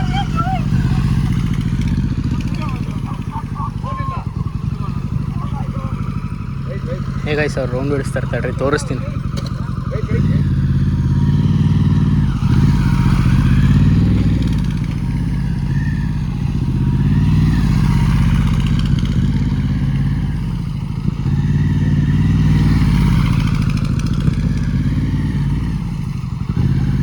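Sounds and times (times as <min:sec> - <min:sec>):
motorbike engine revving: 0:00.0 - 0:27.0.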